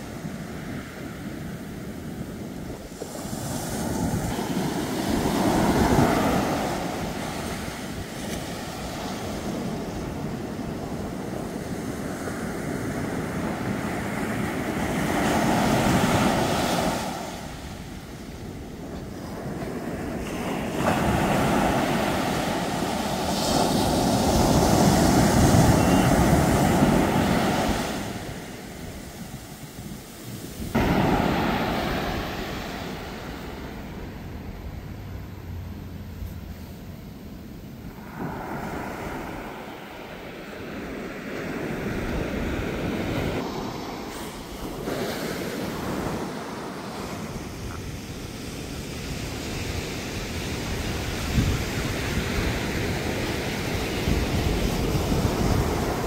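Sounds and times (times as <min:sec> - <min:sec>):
small waves breaking on sand: 0:00.0 - 0:56.0.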